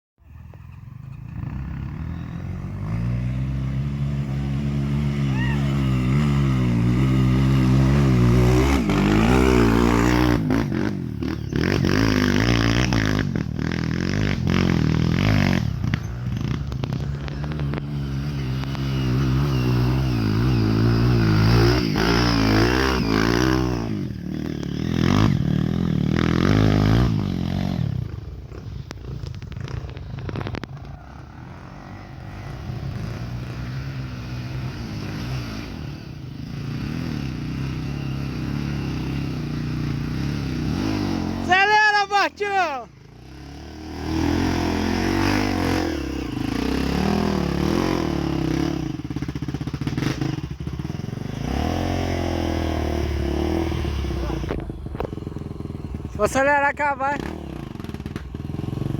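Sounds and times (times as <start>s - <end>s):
motorcycle engine revving: 0.2s - 58.9s.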